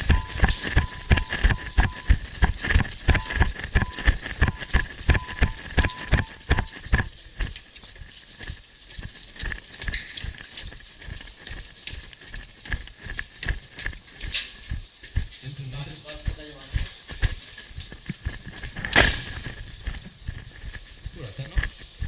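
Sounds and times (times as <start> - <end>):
footsteps of person running: 0.0 - 22.0.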